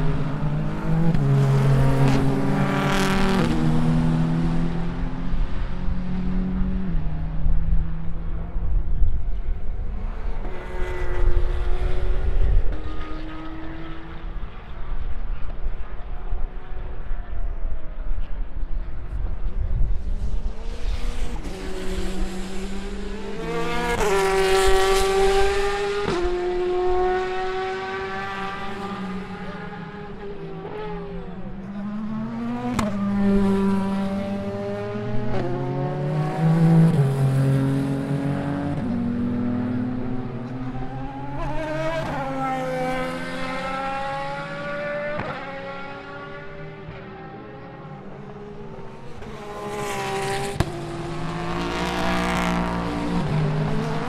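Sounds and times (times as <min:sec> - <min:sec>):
race cars passing revving: 0:00.0 - 0:54.0.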